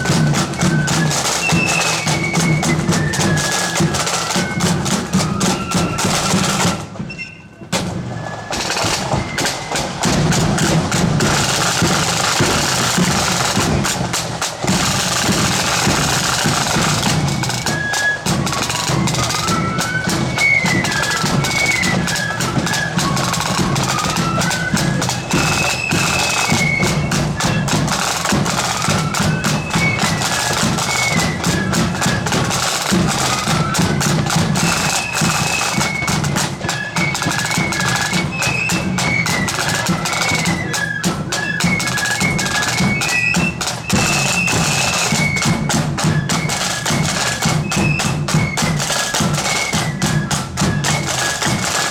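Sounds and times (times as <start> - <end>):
rapid snare drumming: 0.0 - 7.0, 7.7 - 51.9.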